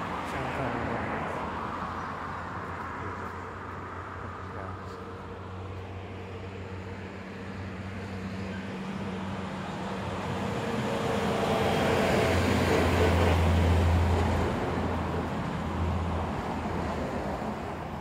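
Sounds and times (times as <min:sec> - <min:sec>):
road vehicle passing by: 0:00.0 - 0:18.0.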